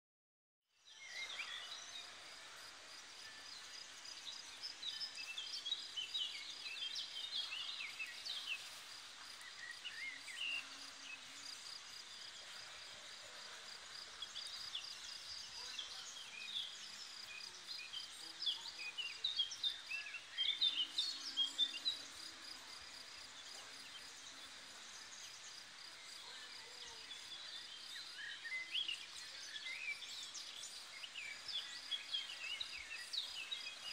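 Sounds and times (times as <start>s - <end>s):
songbirds singing and chirping: 0.7s - 33.9s.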